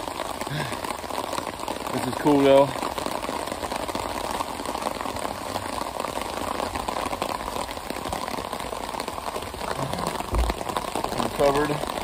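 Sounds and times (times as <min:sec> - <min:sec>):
rain on tarp: 0:00.0 - 0:12.0.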